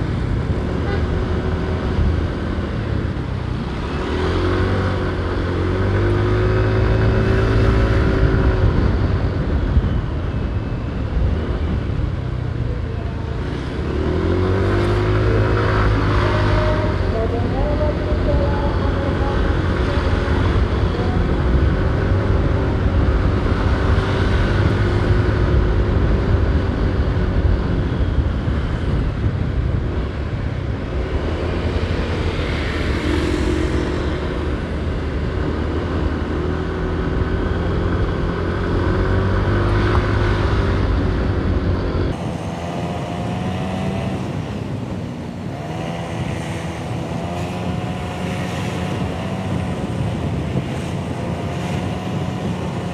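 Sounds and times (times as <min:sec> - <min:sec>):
motorcycle engine hum: 0:00.0 - 0:52.9
road and wind noise: 0:00.0 - 0:52.9.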